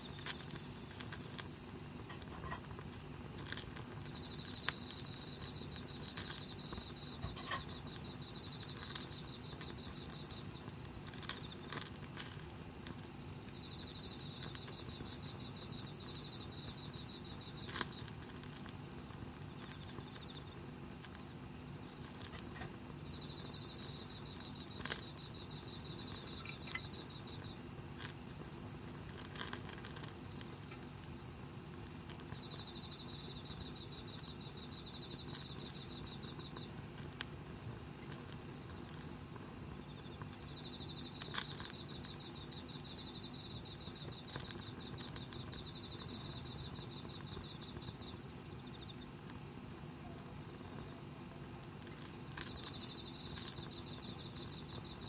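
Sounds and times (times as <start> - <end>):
campfire burning: 0.0 - 48.6
insects chirping in trills: 0.0 - 55.0.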